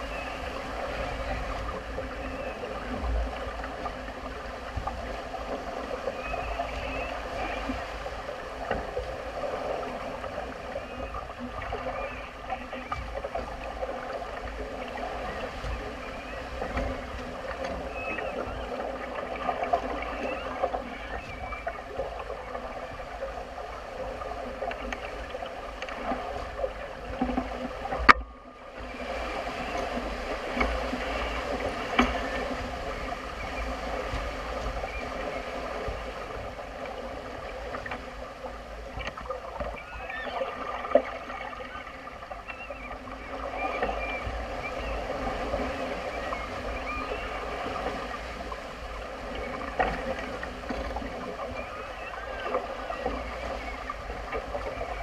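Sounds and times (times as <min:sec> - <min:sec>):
water rushing along hull: 0:00.0 - 0:55.0.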